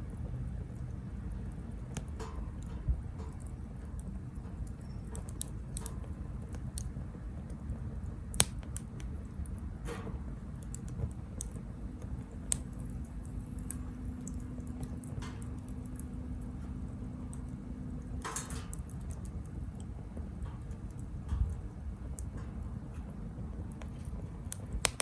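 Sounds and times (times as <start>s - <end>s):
low steady rumble: 0.0s - 25.0s
wood fire crackling: 0.0s - 25.0s.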